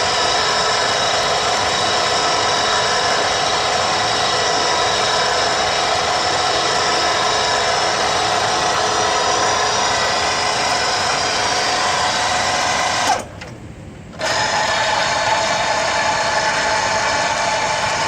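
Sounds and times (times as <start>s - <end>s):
pipe threading machine whining: 0.0s - 18.0s.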